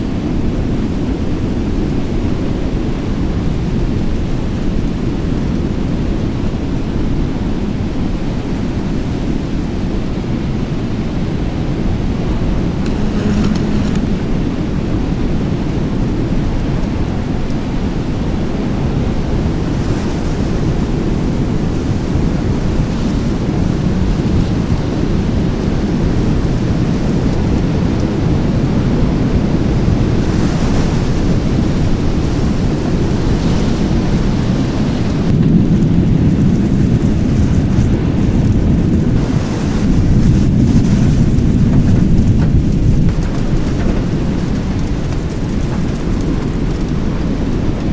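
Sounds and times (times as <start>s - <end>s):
heavy rain: 0.0s - 47.9s
wind: 0.0s - 47.9s.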